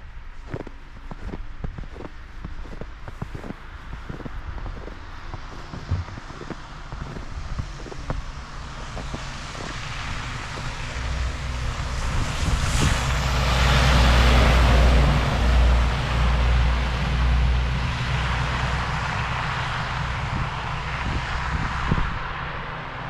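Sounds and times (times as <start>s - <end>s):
vehicle driving past on wet road: 2.0s - 23.0s.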